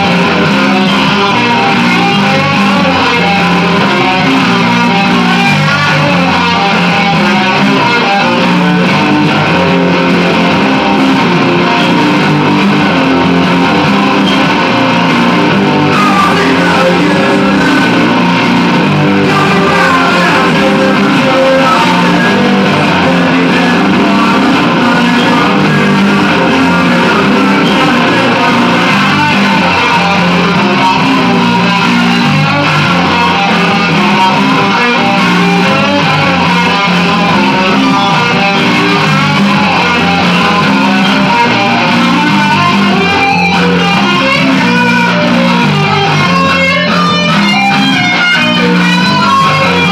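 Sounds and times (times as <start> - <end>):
electric guitar rock playing: 0.0 - 49.9.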